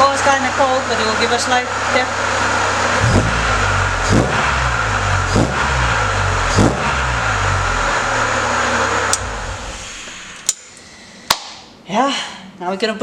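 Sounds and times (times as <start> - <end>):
car engine idling and revving: 0.0 - 10.8.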